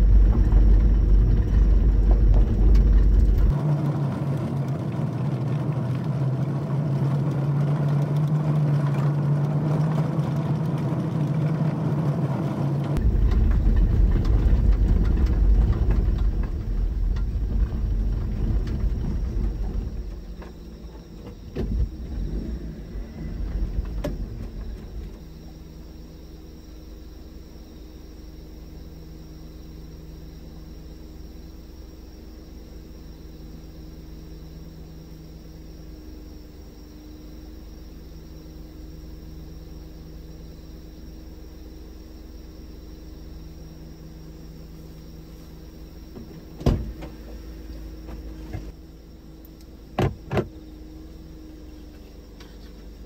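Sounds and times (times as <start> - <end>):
vehicle engine idling: 0.0 - 53.0.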